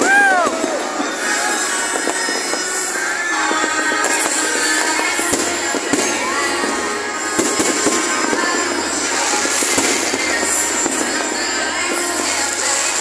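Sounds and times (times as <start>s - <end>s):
fireworks bursting: 0.0s - 13.0s
loud music: 0.0s - 13.0s.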